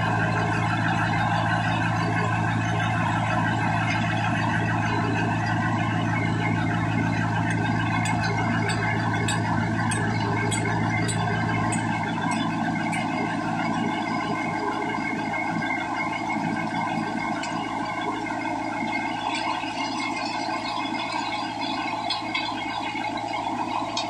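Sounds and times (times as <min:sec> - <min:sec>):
concrete pump machine noise: 0:00.0 - 0:24.0
low engine hum: 0:00.0 - 0:24.0.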